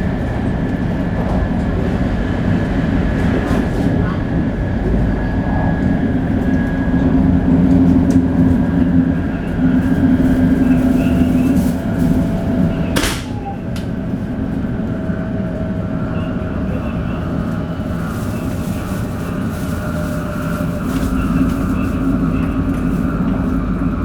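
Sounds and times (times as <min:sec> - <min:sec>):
train running at speed: 0:00.0 - 0:24.0.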